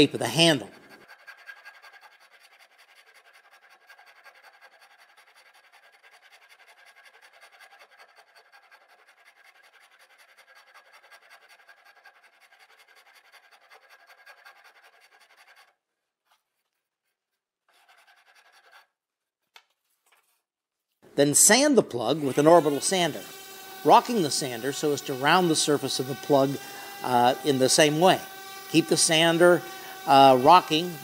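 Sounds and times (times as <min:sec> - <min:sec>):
hand rasp scratching wood: 0:00.0 - 0:19.0, 0:21.5 - 0:31.0.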